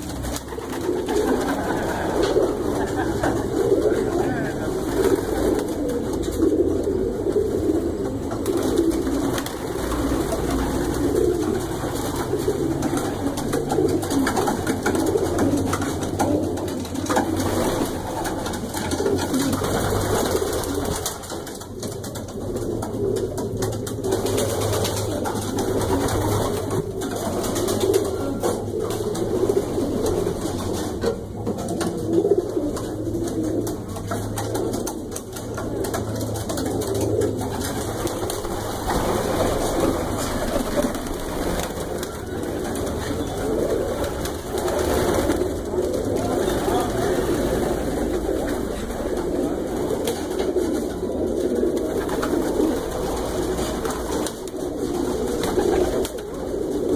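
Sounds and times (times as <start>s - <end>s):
pigeons cooing: 0.0s - 56.9s.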